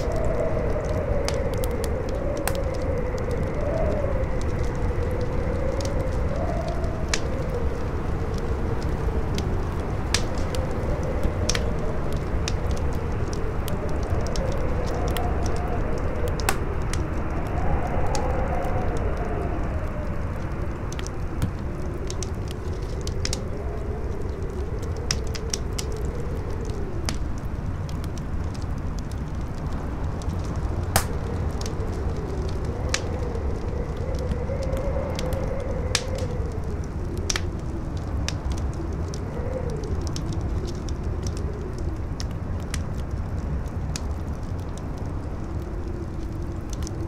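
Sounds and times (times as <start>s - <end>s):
campfire crackling and popping: 0.0s - 47.0s
wind howling: 0.0s - 47.0s.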